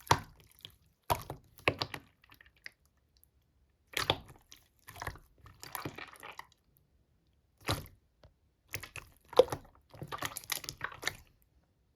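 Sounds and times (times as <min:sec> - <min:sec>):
slime squished by hand: 0:00.0 - 0:03.1, 0:03.8 - 0:06.7, 0:07.5 - 0:11.4.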